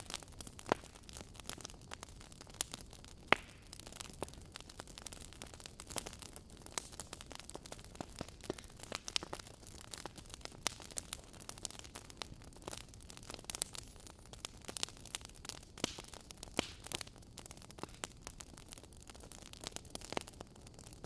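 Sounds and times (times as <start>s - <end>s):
burning logs crackling: 0.0s - 21.0s.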